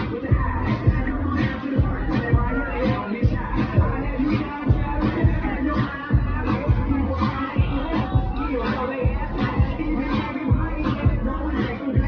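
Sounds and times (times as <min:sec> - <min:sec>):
music with bass beat: 0:00.0 - 0:12.0.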